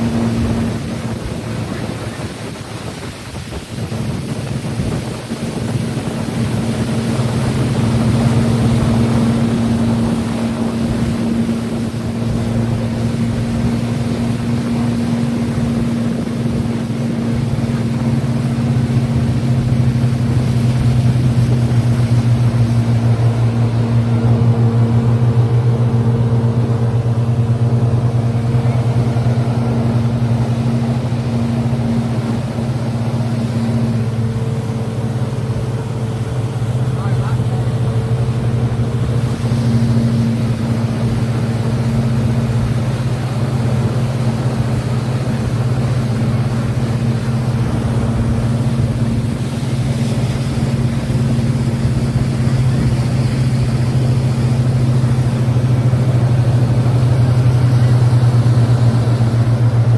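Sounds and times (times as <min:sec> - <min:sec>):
motorboat engine humming: 0:00.0 - 0:59.9
rushing wind and water: 0:00.0 - 0:59.9.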